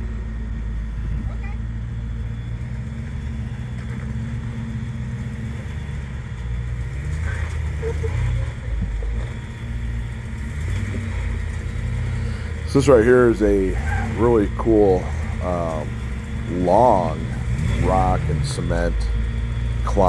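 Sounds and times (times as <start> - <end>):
truck engine running at low revs: 0.0 - 20.0.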